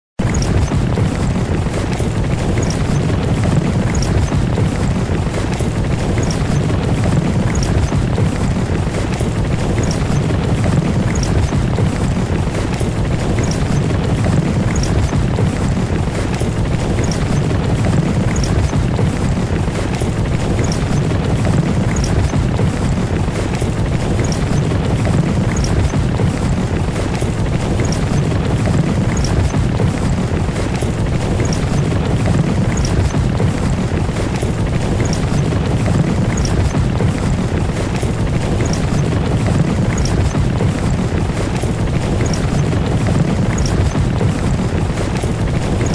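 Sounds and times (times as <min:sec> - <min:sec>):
carriage wheels rumbling: 0:00.2 - 0:45.9
hoofbeats: 0:00.2 - 0:45.9
hooves clopping: 0:00.2 - 0:45.9.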